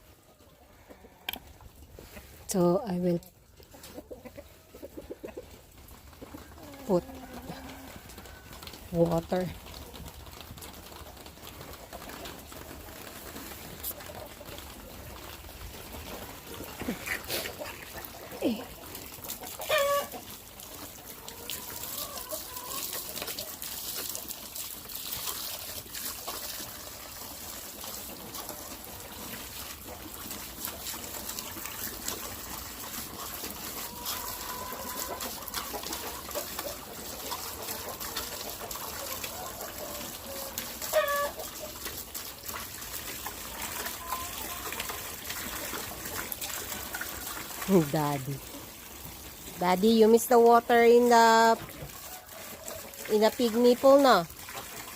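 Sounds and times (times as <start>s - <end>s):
chickens clucking: 0.0s - 24.3s, 26.2s - 54.9s
water trickling: 0.8s - 54.9s.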